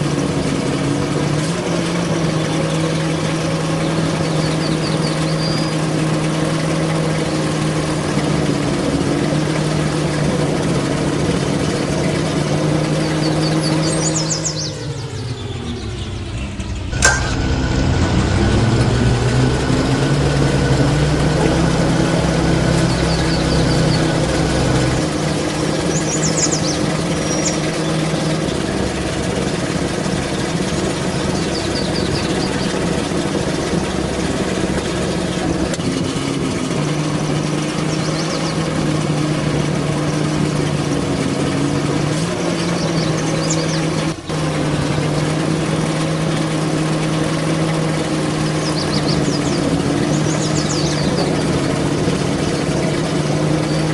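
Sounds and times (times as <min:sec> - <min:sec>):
truck engine running: 0:00.0 - 0:53.9.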